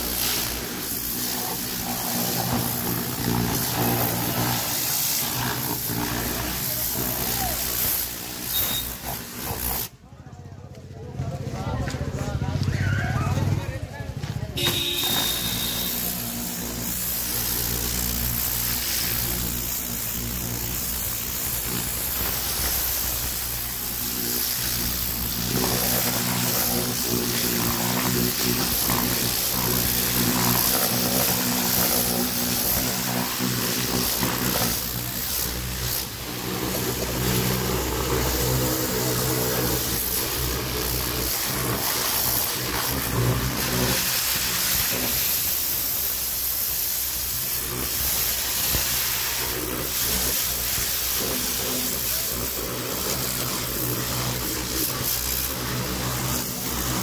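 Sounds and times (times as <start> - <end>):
water jet hissing: 0.0 - 10.0, 14.6 - 57.0.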